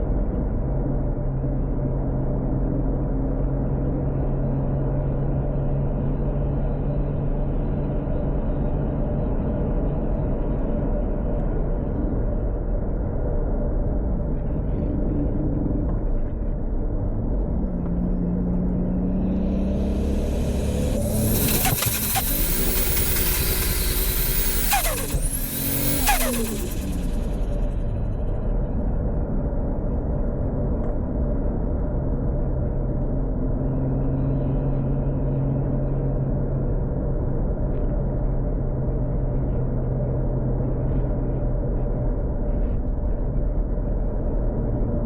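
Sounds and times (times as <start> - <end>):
car engine running at low revs: 0.0 - 45.0.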